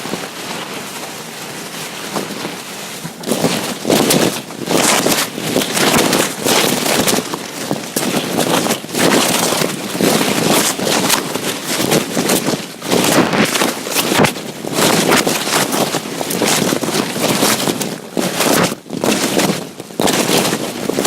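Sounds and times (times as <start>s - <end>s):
foam packing peanuts rustling: 0.0s - 21.0s.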